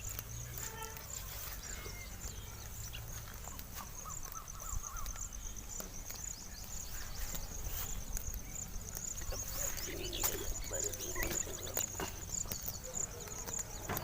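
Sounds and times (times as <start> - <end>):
rapid high-pitched chirping: 1.4 - 13.8.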